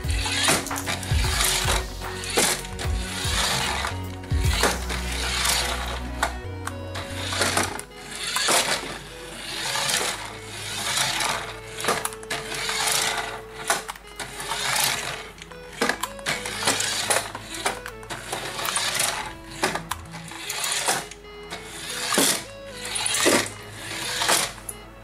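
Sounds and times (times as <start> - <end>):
background music: 0.0 - 25.0
toy car motor whirring: 0.0 - 25.0.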